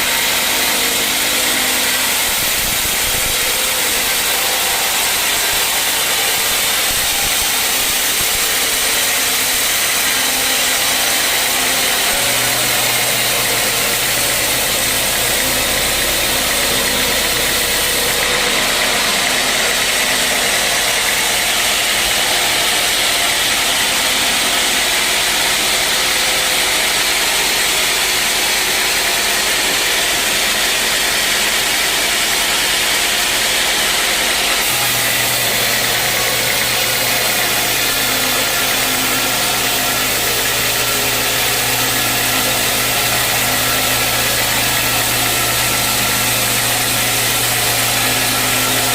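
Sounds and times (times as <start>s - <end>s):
sawmill machinery droning: 0.0s - 48.9s.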